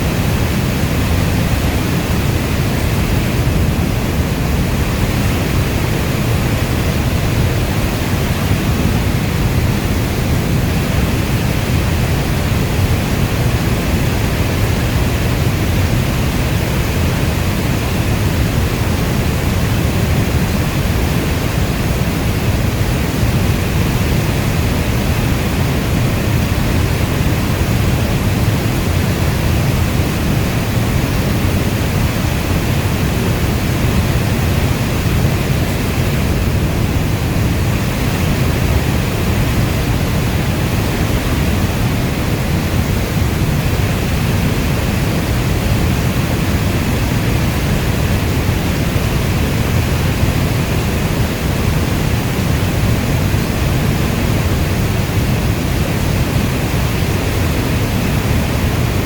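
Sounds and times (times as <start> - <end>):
heavy steady rain: 0.0 - 59.0.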